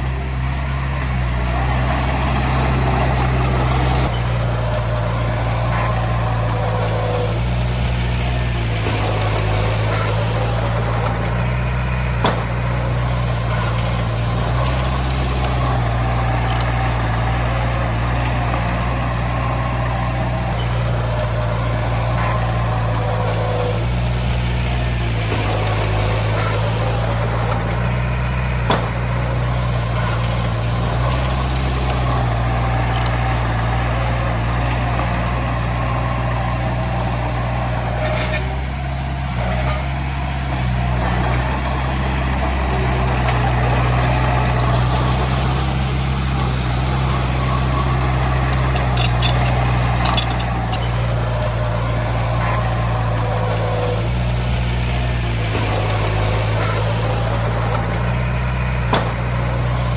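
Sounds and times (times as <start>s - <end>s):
heavy diesel engine droning: 0.0s - 59.9s
short metal clanks: 2.4s - 59.9s.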